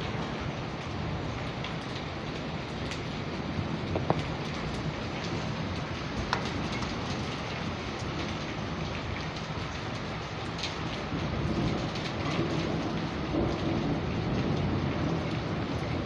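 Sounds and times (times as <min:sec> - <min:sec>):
heavy rain pouring: 0:00.0 - 0:16.0
raindrop ticks: 0:00.8 - 0:16.0.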